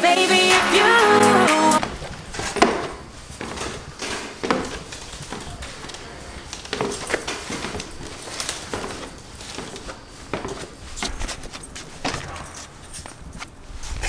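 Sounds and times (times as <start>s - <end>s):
sandal footsteps on stairs: 1.8s - 13.1s.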